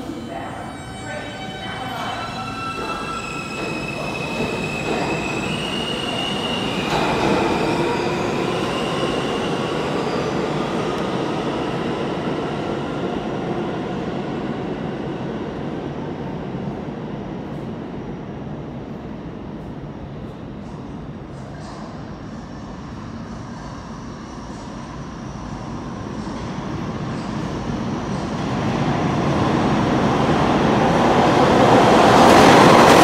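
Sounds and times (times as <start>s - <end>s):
subway train running: 0.0s - 33.0s.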